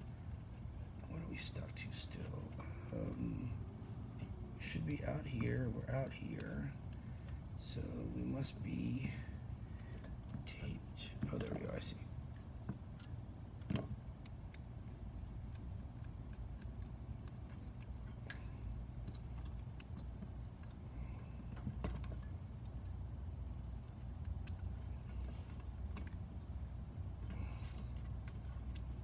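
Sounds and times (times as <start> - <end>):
light clicks and rattles of parts: 0.0 - 29.0
steady low hum: 0.0 - 29.0.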